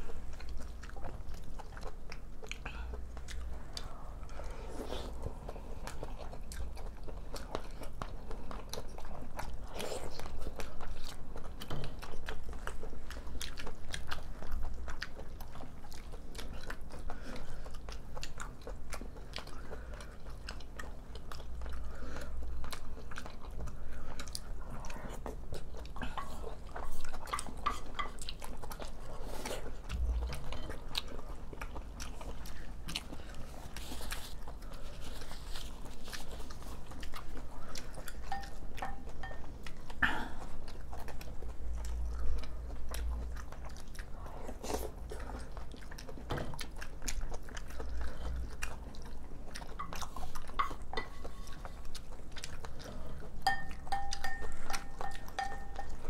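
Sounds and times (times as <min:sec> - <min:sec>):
people chewing and biting food: 0:00.0 - 0:56.0.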